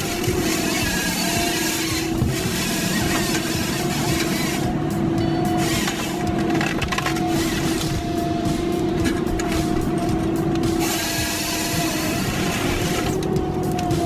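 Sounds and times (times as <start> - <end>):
harvester engine whining: 0.0 - 14.0.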